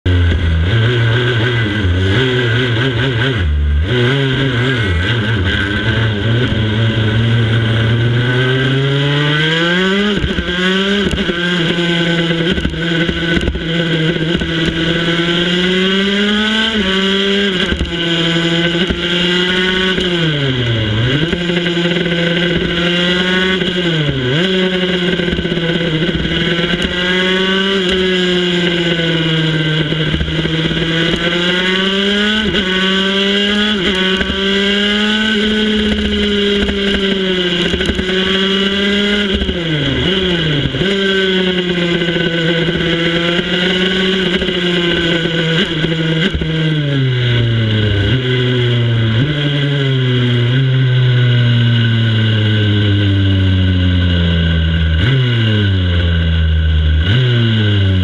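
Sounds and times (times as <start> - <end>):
racing motorcycle engine revving: 0.1 - 58.0.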